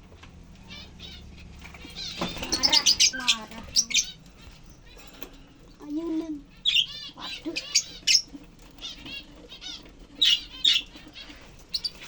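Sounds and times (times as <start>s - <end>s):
lovebirds chirping and squawking: 0.4s - 12.0s.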